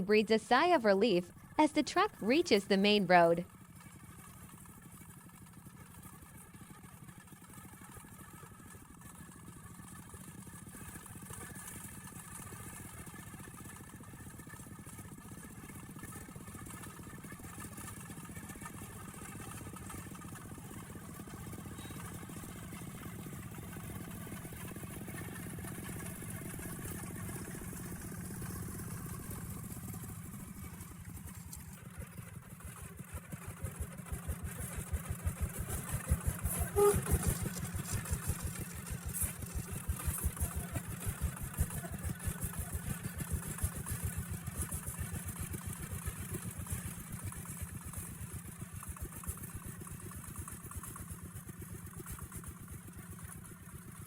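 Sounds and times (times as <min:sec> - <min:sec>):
tractor engine running: 0:04.1 - 0:54.0.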